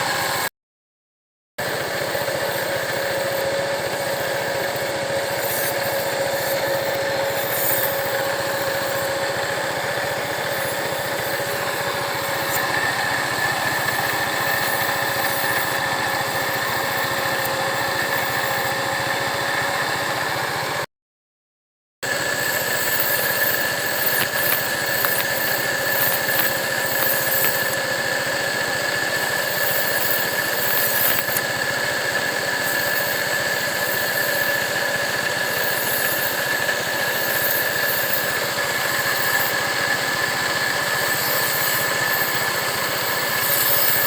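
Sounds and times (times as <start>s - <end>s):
high-pitched whine: 1.6s - 20.6s, 22.1s - 44.0s
blade grinding on wheel: 1.6s - 20.8s, 22.1s - 44.0s
motorcycle engine running: 1.6s - 20.8s, 22.1s - 44.0s.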